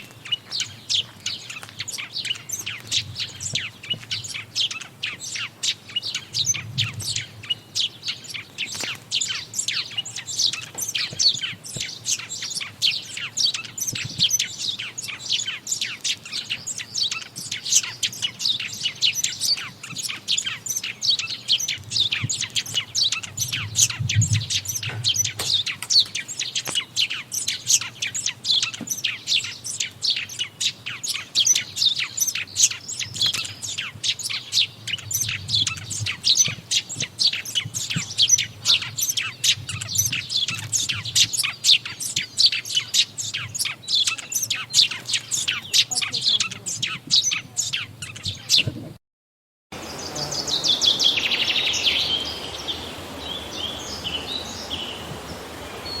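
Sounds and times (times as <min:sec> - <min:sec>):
songbirds chirping and singing: 0:00.0 - 0:48.9, 0:49.8 - 0:56.0.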